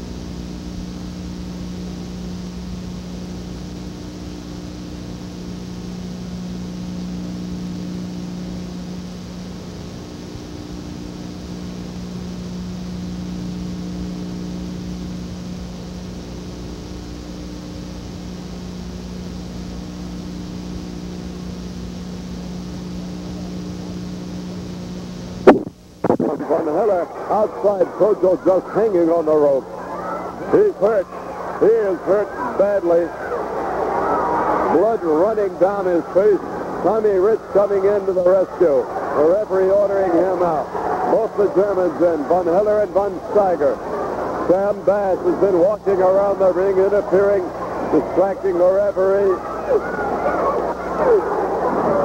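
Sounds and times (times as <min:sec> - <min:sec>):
electrical hum: 0:00.0 - 0:52.0
tape hiss: 0:00.0 - 0:52.0.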